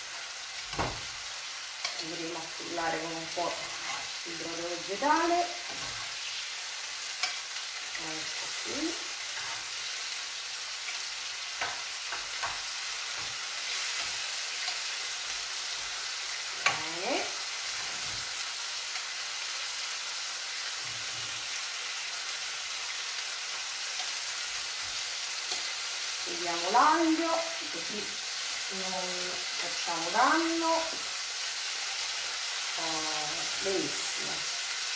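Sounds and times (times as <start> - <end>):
food sizzling in a frying pan: 0.0 - 34.9.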